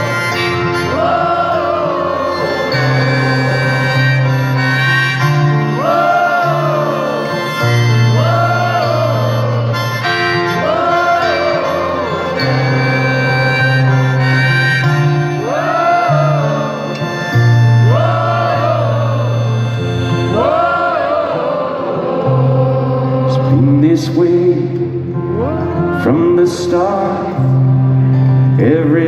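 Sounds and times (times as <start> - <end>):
live acoustic band music: 0.0 - 29.0.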